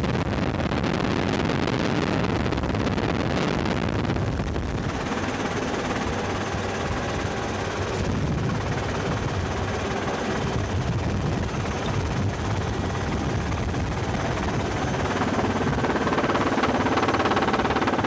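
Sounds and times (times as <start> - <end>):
helicopter rotor and turbine: 0.0 - 18.0.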